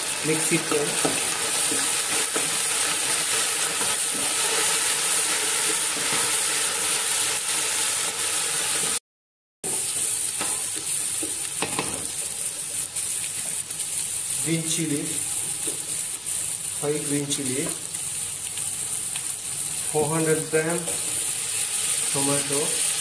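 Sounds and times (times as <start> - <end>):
food sizzling in hot oil: 0.0 - 9.0, 9.6 - 23.0.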